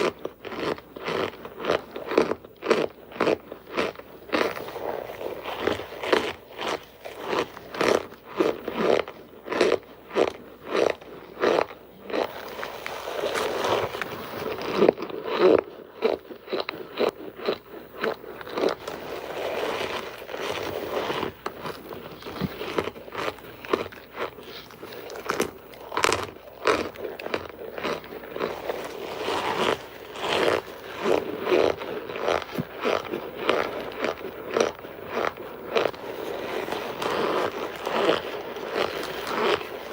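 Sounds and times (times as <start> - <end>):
cornstarch bricks crunching: 0.0 - 39.9.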